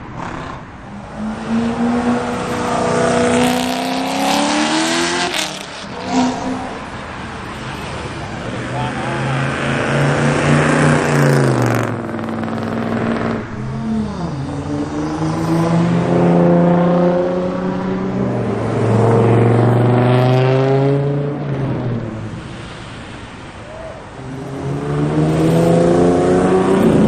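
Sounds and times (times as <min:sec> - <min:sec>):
car engine accelerating: 0:00.0 - 0:22.3, 0:24.2 - 0:27.0.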